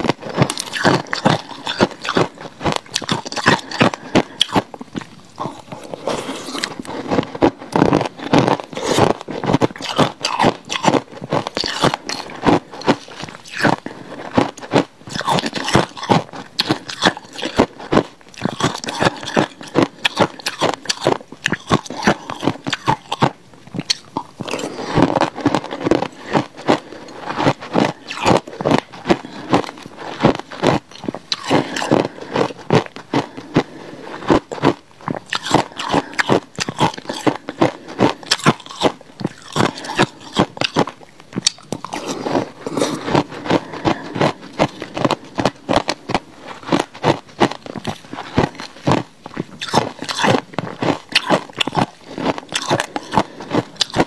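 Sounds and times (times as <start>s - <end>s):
crunching and chewing ice: 0.0s - 54.0s.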